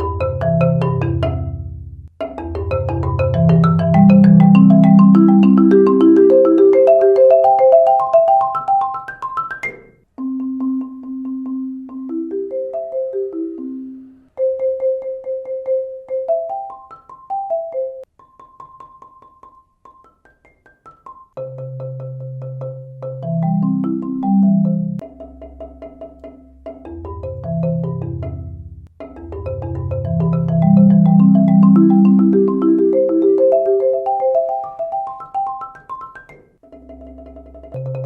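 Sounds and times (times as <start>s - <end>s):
marimba rolled notes: 0.0s - 38.0s.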